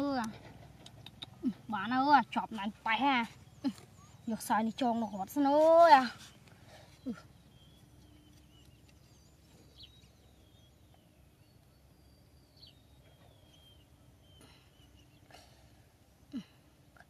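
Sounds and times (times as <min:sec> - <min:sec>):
faint high bird chirps: 0:01.0 - 0:15.4.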